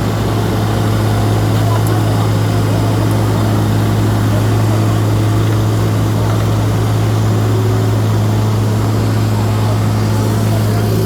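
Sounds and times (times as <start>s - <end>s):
paving machinery engine running: 0.0s - 11.0s.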